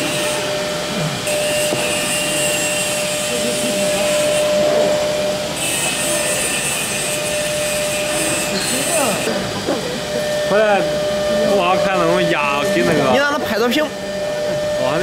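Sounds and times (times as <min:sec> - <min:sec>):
vacuum pump running: 0:00.0 - 0:15.0.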